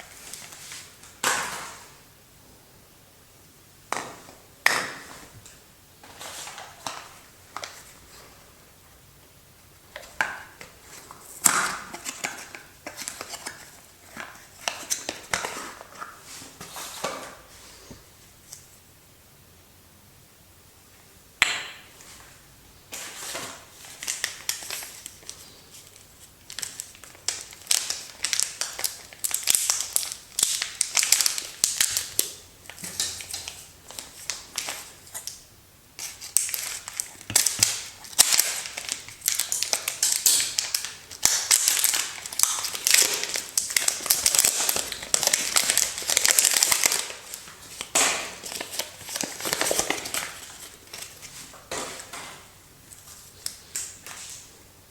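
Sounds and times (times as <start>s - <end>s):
paper and plastic wrappers crinkling: 0.0s - 1.9s, 4.9s - 8.3s, 9.8s - 17.5s, 22.0s - 35.4s, 36.0s - 54.5s.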